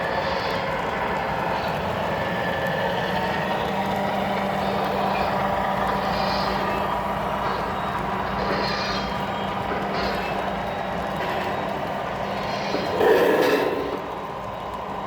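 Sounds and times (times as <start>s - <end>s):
model train wheels rolling: 0.0s - 15.0s.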